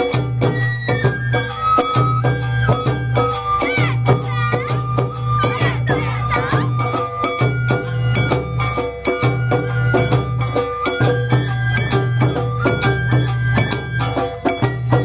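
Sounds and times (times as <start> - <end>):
festival percussion: 0.0 - 15.0
high held-note melody: 1.4 - 15.0.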